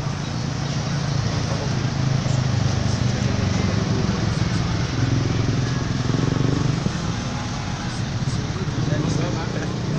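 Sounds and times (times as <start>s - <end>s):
slow road traffic: 0.0s - 9.9s.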